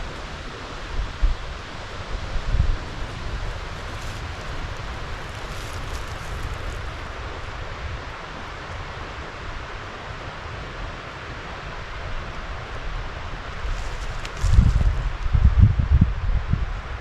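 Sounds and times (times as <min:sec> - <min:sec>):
rushing wind: 0:00.0 - 0:17.0
wind buffeting microphone: 0:00.0 - 0:17.0.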